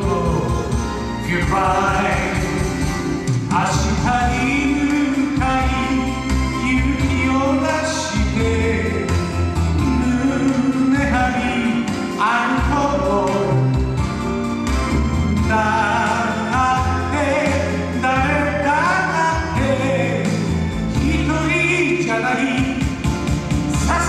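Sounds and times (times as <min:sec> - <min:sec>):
man singing into microphone: 0:00.0 - 0:14.0, 0:15.4 - 0:23.1, 0:23.7 - 0:24.0
musical accompaniment: 0:00.0 - 0:24.0.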